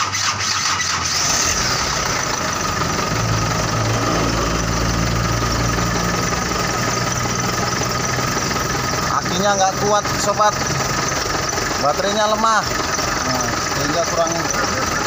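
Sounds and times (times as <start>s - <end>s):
diesel engine starting and idling: 0.0s - 15.0s.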